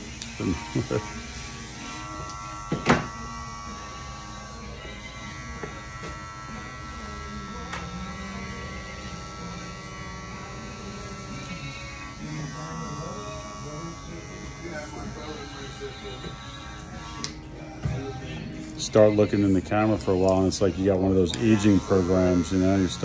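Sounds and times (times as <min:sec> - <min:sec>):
electric hair clippers buzzing: 0:00.0 - 0:18.2, 0:19.3 - 0:23.0.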